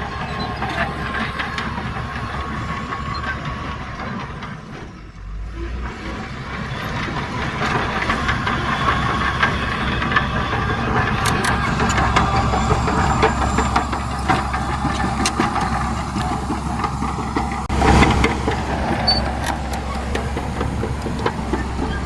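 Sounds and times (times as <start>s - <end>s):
diesel machinery engine running: 0.0s - 22.0s
machinery clanking: 0.0s - 22.0s.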